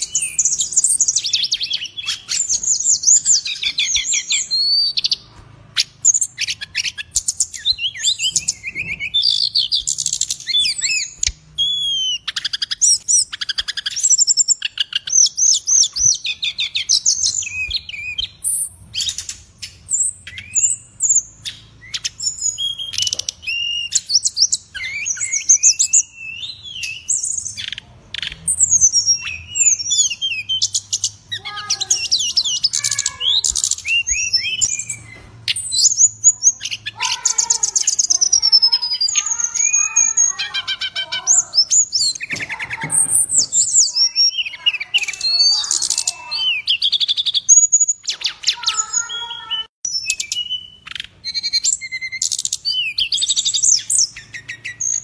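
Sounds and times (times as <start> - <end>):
bird singing trills and chips: 0.0 - 55.0.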